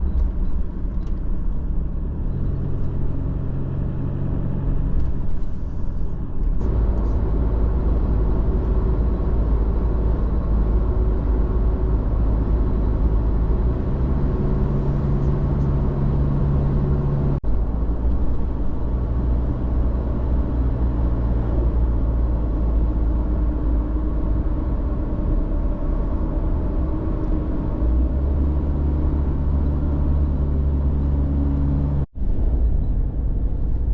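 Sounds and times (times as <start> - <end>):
road rumble: 0.0 - 33.9
vehicle engine drone: 0.0 - 33.9.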